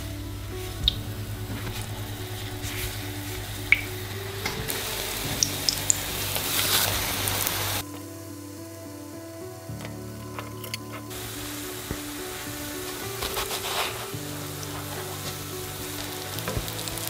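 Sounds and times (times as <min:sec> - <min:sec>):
hot oil sizzling in a pan: 0:00.0 - 0:17.0
soft background music: 0:00.0 - 0:17.0.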